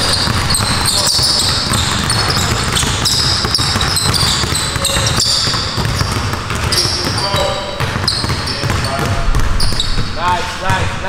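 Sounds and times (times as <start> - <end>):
shoe squeaks: 0.0 - 10.4
basketballs bouncing: 0.0 - 11.0.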